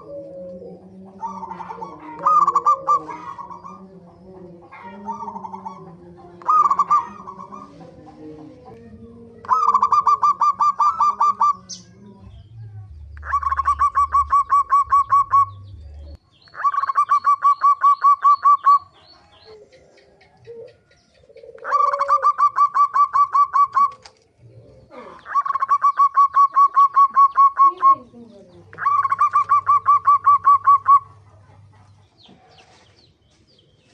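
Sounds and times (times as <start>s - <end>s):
dove calling rapid notes: 0.0s - 8.2s, 9.4s - 12.0s, 13.1s - 24.3s, 25.2s - 31.6s.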